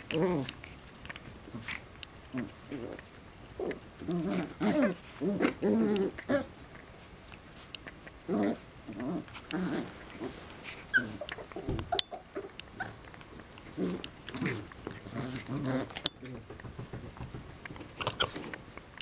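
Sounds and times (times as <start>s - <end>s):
dogs growling in play: 0.0s - 16.5s.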